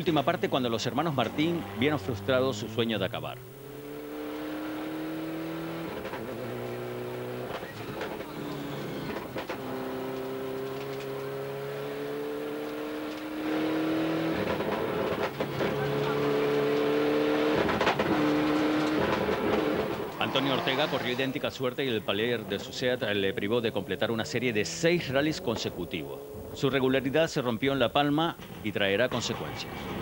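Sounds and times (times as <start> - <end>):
rally car engine: 0.0 - 30.0.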